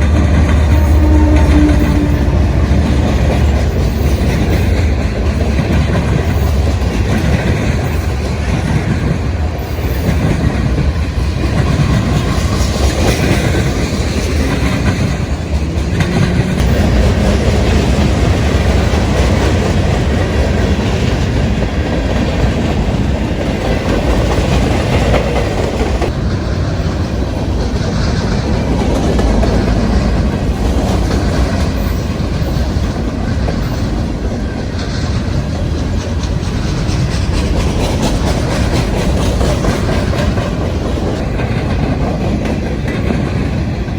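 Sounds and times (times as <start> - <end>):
freight train cars rolling past: 0.0 - 43.9.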